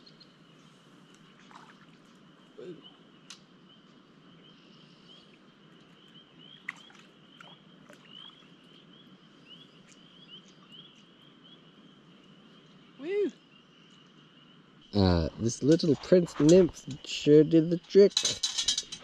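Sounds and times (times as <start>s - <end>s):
spring peepers chorus: 0.0s - 19.0s.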